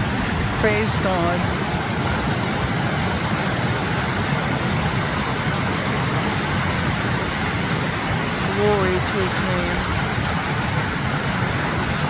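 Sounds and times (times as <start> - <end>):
mountain creek rushing: 0.0 - 12.0.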